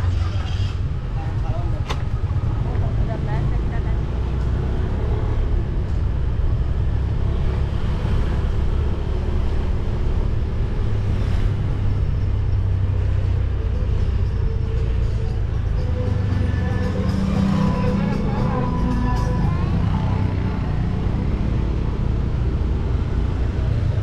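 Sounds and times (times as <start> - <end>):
vehicle rumbling on the move: 0.0 - 24.0.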